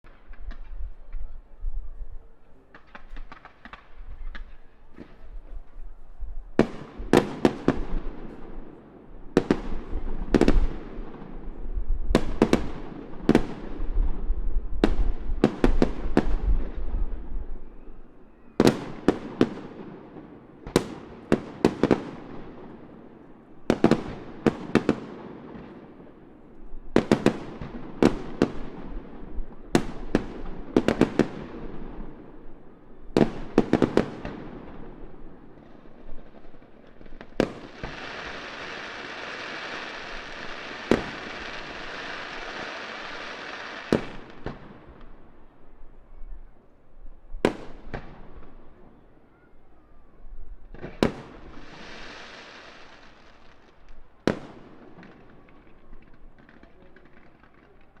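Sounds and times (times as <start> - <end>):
fireworks bangs with echo: 2.6 - 5.8, 6.5 - 17.8, 18.5 - 45.4, 47.4 - 49.0, 50.7 - 58.0.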